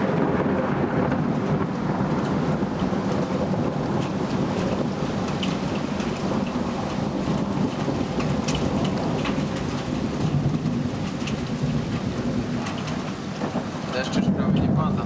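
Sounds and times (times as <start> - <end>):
heavy rain falling: 0.0 - 15.0
sharp taps of raindrops: 0.0 - 15.0
thunder rumbling: 0.0 - 15.0.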